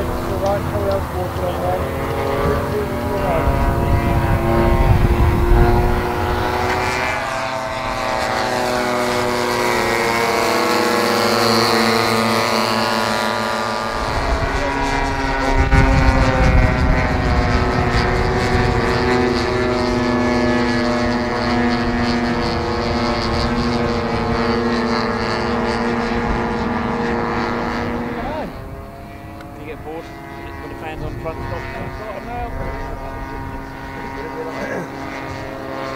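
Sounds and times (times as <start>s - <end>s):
model plane engines: 0.0s - 35.9s.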